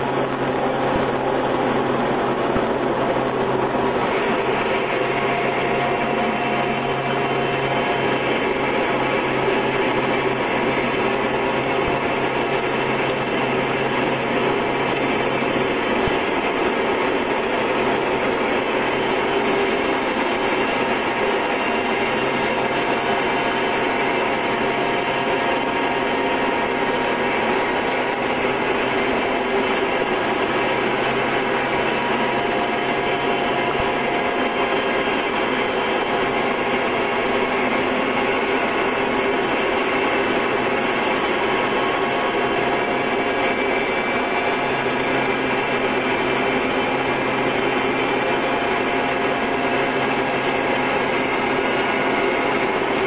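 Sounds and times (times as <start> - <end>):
turboprop engine droning: 0.0 - 53.0.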